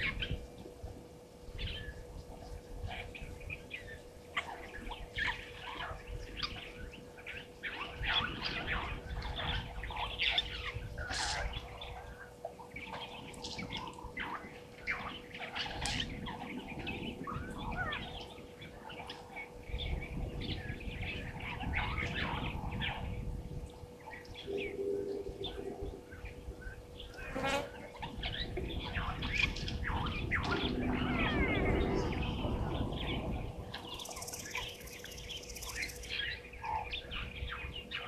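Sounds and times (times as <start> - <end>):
faint steady hum: 0.0 - 38.0
low rumbling noise: 0.0 - 38.0
birds chirping and calling: 1.6 - 38.0.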